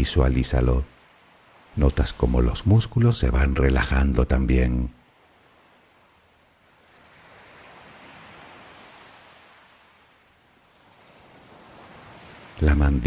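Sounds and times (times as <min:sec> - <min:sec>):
faint ocean waves: 0:00.0 - 0:13.0.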